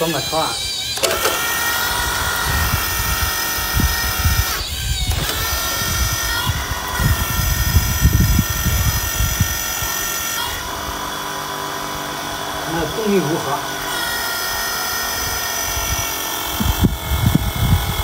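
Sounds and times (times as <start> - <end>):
excavator motors whining: 0.0 - 18.0.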